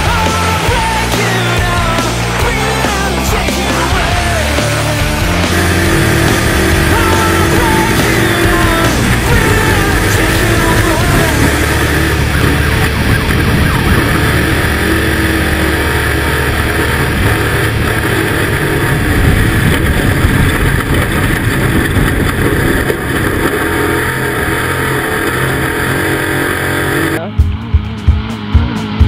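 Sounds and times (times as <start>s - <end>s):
race vehicle engine at high revs: 0.0s - 29.0s.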